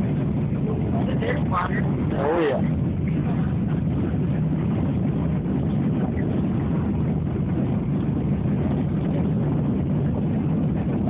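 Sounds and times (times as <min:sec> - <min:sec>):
airliner cabin engine rush: 0:00.0 - 0:11.0.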